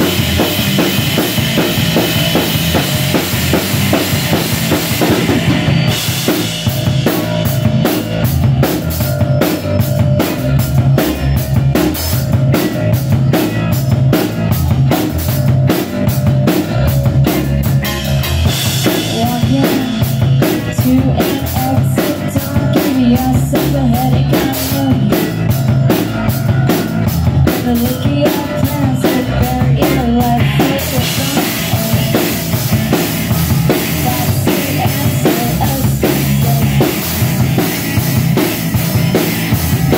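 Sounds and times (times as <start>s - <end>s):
drum kit beat: 0.0s - 39.9s
electric guitars: 0.0s - 39.9s.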